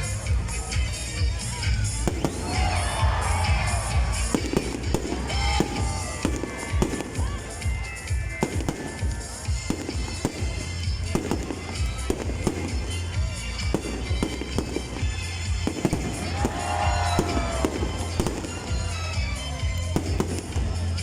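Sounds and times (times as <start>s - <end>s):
fireworks bangs and crackling: 0.0s - 21.0s
music playing: 0.0s - 21.0s.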